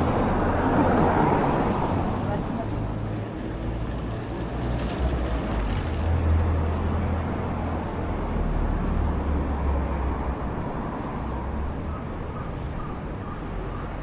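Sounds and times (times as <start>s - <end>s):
street traffic: 0.0s - 14.0s
vehicle engine rumbling: 0.0s - 14.0s.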